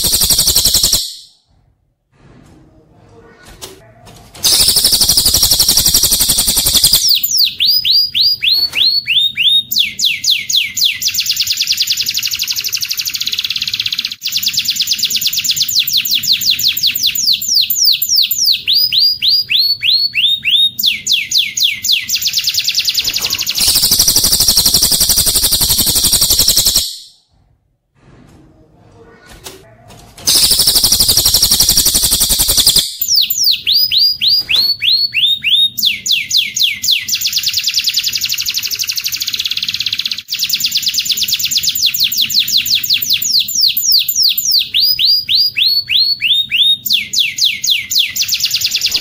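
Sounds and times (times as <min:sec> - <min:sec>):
canary trilling and whistling: 0:00.0 - 0:01.4, 0:04.4 - 0:27.2, 0:30.3 - 0:49.0
bird song: 0:04.4 - 0:27.2, 0:30.3 - 0:49.0.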